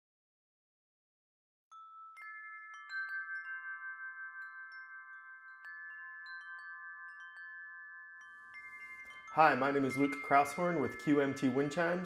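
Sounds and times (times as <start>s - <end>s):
wind chime tubes ringing: 1.7s - 12.0s.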